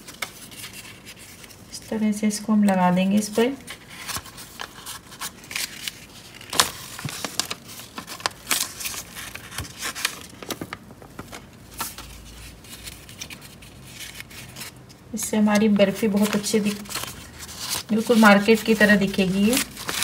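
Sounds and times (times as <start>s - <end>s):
paper sheet rustling: 0.0s - 20.0s.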